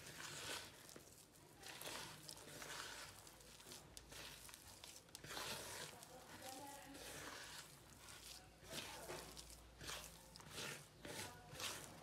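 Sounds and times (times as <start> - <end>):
fingers squishing dough: 0.0 - 12.0.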